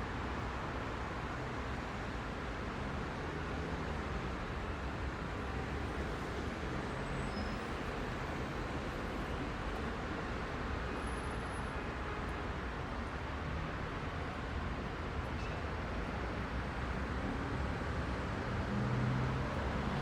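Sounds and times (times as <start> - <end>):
heavy city traffic rumble: 0.0 - 20.0.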